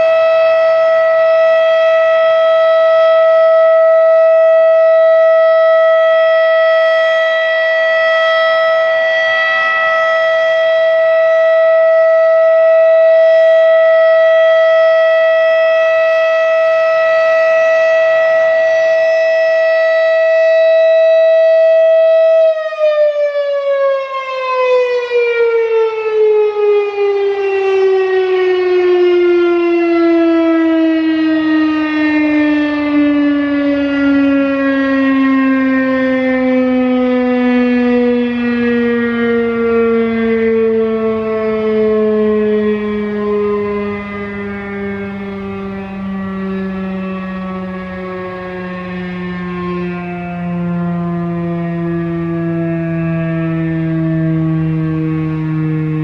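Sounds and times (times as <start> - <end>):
siren winding down: 0.0 - 56.0
warning siren alert tone: 0.0 - 56.0.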